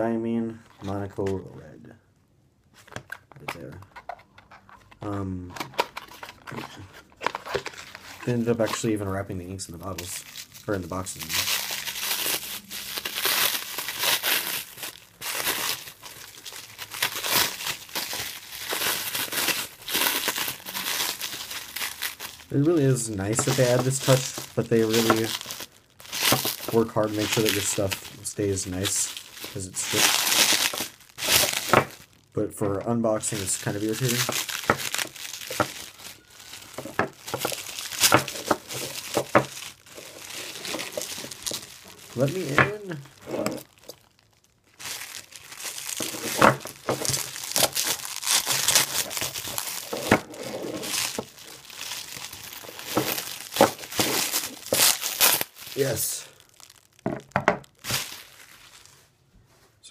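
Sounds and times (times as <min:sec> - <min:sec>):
plastic wrap crinkling: 0:02.8 - 0:59.2.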